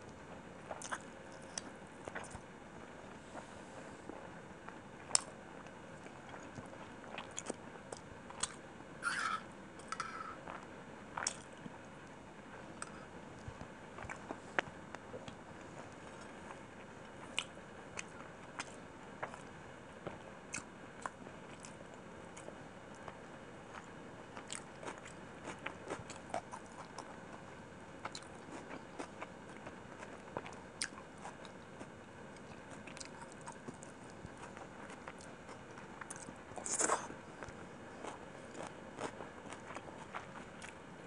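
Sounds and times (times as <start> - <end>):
close chewing and mouth clicks: 0.7 - 2.4, 6.0 - 8.6, 9.8 - 11.7, 13.6 - 16.4, 17.0 - 40.9.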